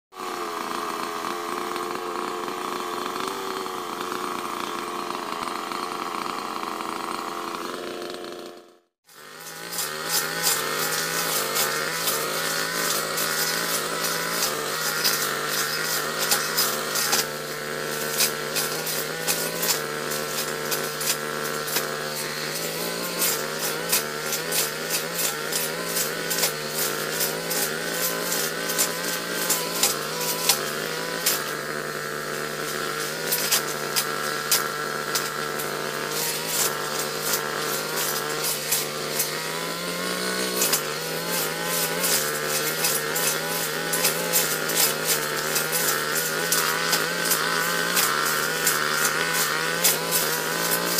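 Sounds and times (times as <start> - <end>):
brush cutter engine running: 0.2 - 50.9
cutting head ticking through undergrowth: 9.1 - 50.9.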